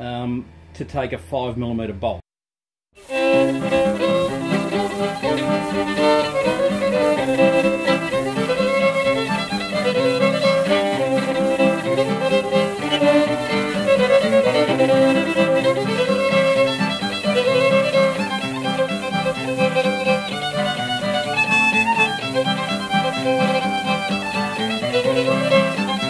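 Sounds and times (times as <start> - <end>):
instrumental background music: 3.0 - 26.0.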